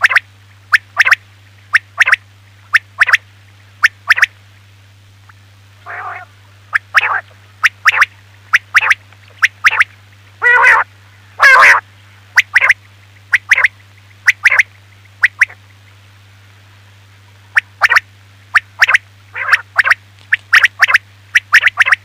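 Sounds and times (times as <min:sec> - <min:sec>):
quail calling: 0:00.0 - 0:03.2, 0:03.8 - 0:04.3, 0:05.8 - 0:15.8, 0:17.3 - 0:22.0
faint low hum: 0:00.0 - 0:22.0.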